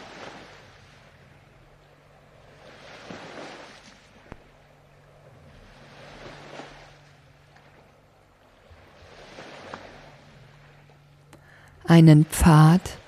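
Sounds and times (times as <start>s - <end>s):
ocean waves washing: 0.0s - 13.0s.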